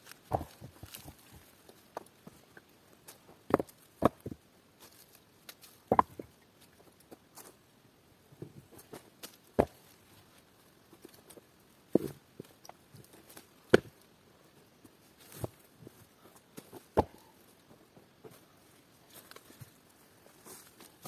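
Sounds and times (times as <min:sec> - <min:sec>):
crackles and rustles of handwork: 0:00.0 - 0:21.0.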